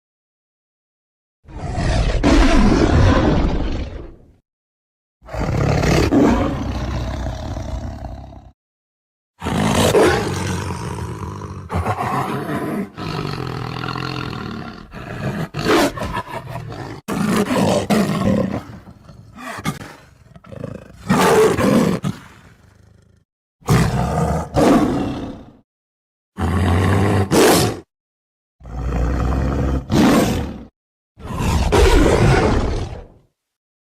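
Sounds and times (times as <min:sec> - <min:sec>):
lion roaring: 0:01.5 - 0:04.3, 0:05.2 - 0:08.5, 0:09.4 - 0:25.6, 0:26.4 - 0:27.8, 0:28.6 - 0:33.2.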